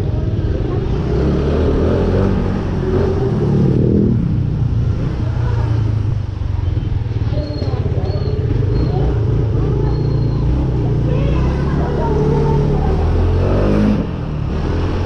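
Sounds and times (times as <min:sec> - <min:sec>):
scooter engine drone: 0:00.0 - 0:15.0.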